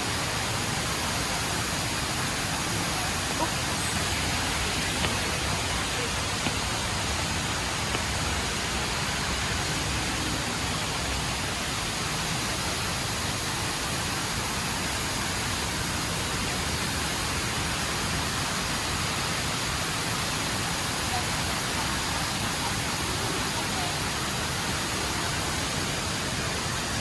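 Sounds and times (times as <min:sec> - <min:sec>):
indoor waterfall rushing: 0:00.0 - 0:27.0.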